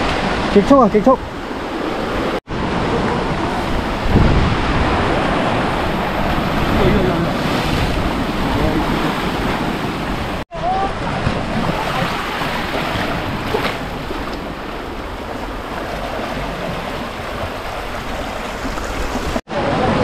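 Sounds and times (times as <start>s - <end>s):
sea surf against rocks: 0.0s - 20.0s.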